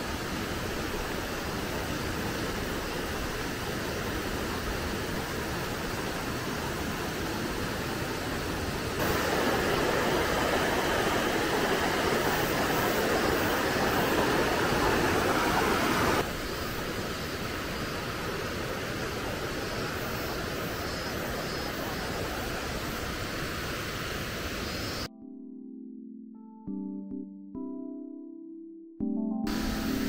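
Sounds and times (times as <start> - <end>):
stream rushing over rocks: 0.0 - 25.1.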